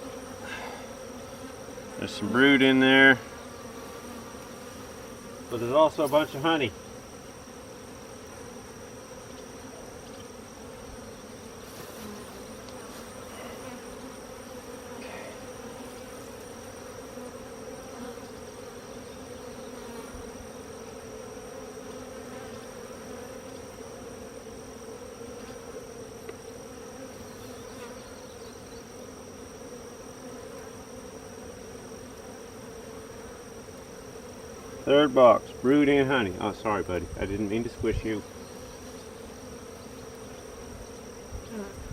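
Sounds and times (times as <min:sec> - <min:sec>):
honeybees buzzing: 0:00.0 - 0:41.9.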